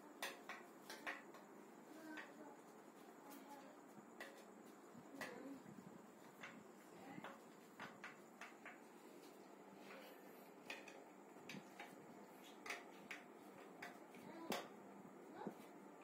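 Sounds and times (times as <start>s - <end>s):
steady hiss: 0.0s - 16.0s
faint clicks and light taps: 0.2s - 14.8s.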